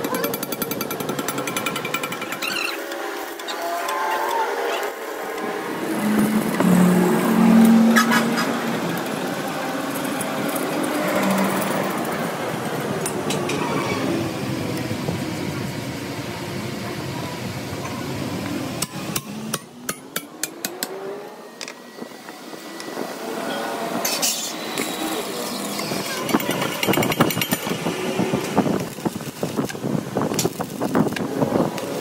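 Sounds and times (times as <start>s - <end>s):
forge rushing noise: 0.7s - 32.0s.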